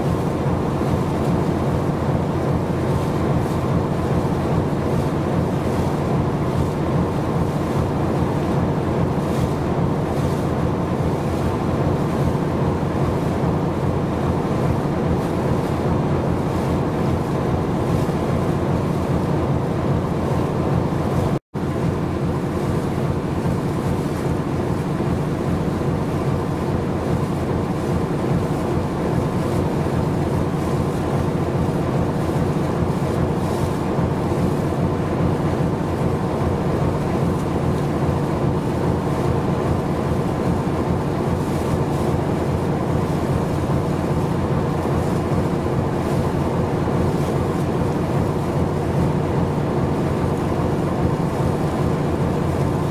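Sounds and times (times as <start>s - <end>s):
wind and water noise: 0.0s - 52.9s.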